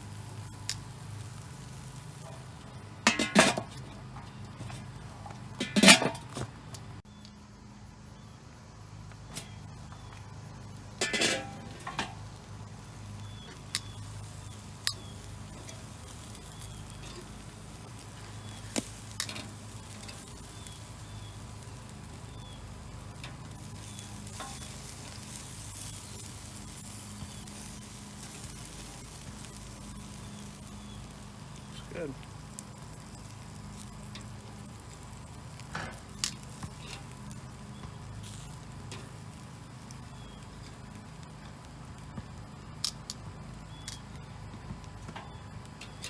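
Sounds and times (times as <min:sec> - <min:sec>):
meat sizzling on a grill: 0:00.0 - 0:06.0, 0:08.2 - 0:46.0.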